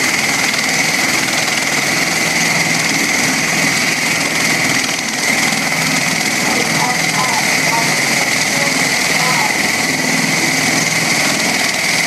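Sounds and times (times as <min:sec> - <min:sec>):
aircraft engine high whine: 0:00.0 - 0:12.0
rotor and exhaust rush: 0:00.0 - 0:12.0.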